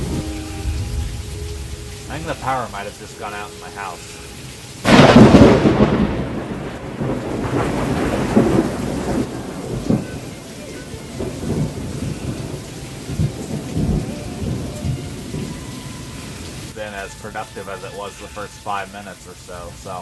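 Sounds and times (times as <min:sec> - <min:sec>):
thunder rumbling: 0:00.0 - 0:04.1, 0:04.8 - 0:16.8
heavy rain hiss: 0:00.0 - 0:20.0.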